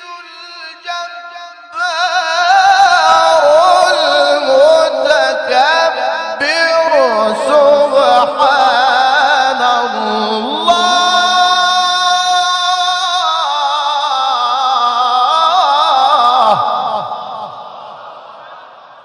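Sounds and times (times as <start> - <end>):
man chanting melodic recitation: 1.8 - 17.0.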